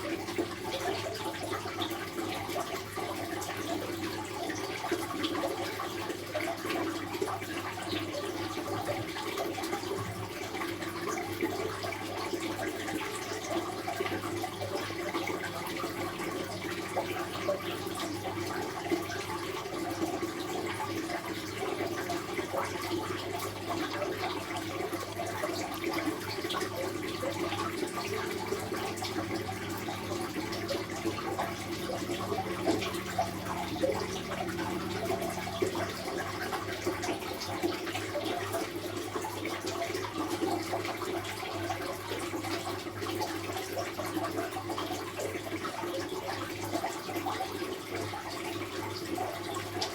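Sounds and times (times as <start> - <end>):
water flowing and splashing: 0.0 - 49.9.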